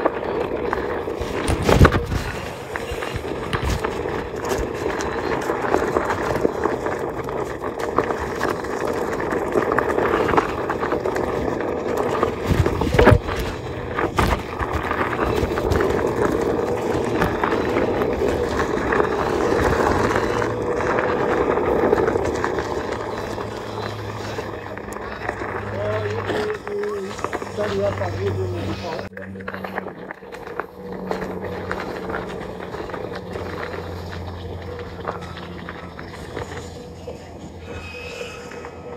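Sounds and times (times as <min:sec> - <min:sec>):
drone propeller hum: 0:00.0 - 0:38.9.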